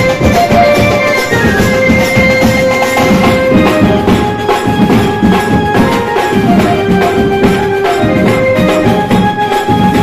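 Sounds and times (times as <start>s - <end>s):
electronic keyboard melody: 0.0s - 10.0s
fast drums and percussion: 0.0s - 10.0s.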